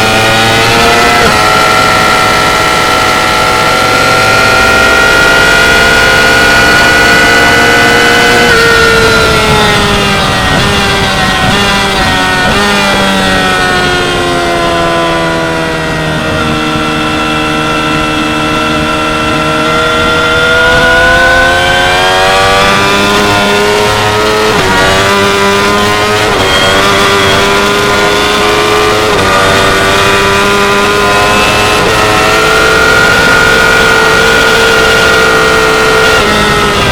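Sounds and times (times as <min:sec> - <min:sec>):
motorcycle engine at high revs: 0:00.0 - 0:36.9.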